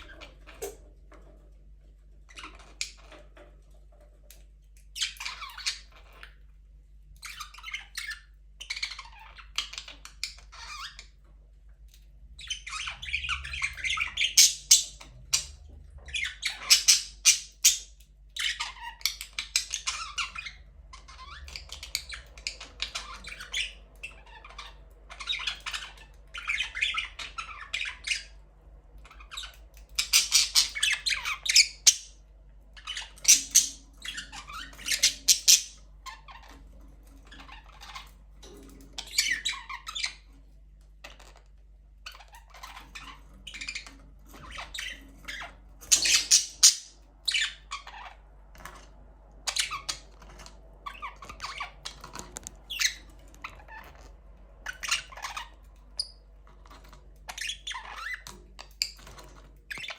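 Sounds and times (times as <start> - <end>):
budgerigars chirping and squawking: 0.0 - 6.5, 7.2 - 59.9.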